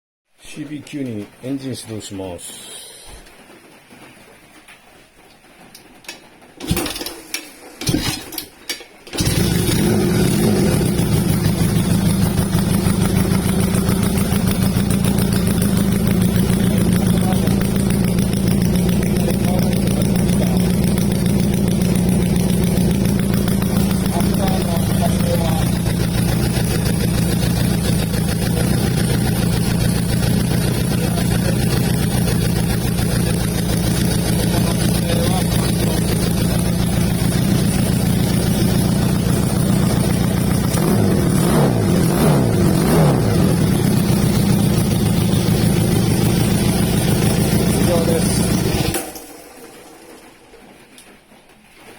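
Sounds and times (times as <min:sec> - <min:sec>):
motorcycle engine turning over and starting: 0:06.6 - 0:51.9.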